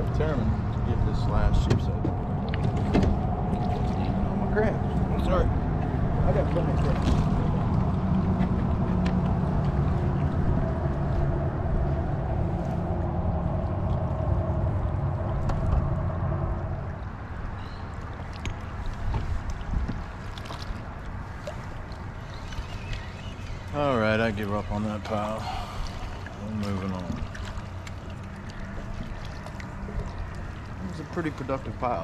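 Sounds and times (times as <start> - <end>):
boat motor humming: 0.0 - 32.0
water noise: 0.0 - 32.0.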